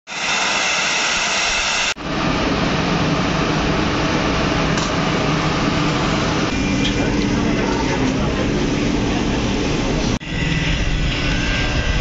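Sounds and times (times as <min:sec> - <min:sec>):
deep rushing noise: 0:01.4 - 0:12.0.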